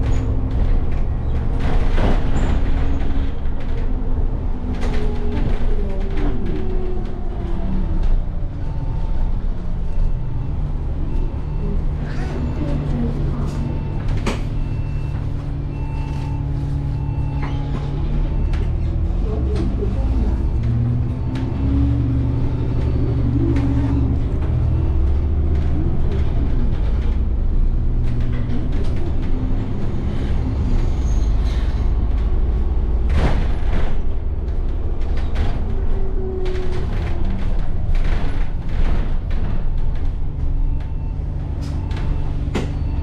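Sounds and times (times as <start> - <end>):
bus engine droning: 0.0 - 43.0.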